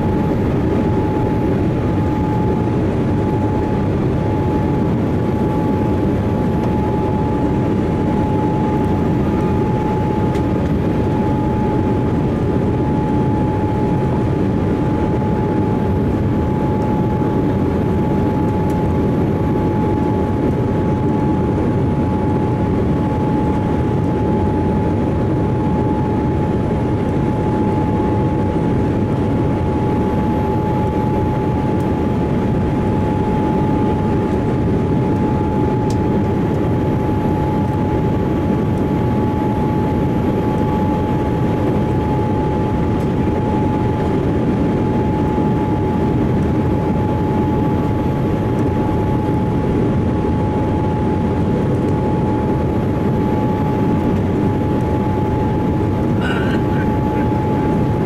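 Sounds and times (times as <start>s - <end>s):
airplane cabin airflow and engines: 0.0s - 58.0s
steady whine: 0.0s - 58.0s.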